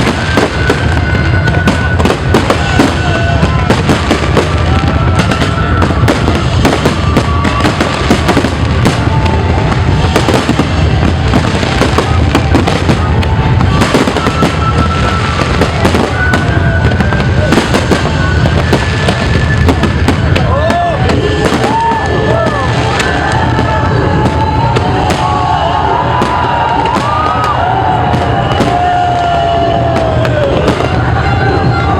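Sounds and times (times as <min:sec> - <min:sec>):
fireworks bangs and crackles: 0:00.0 - 0:31.9
music playing: 0:00.0 - 0:31.9.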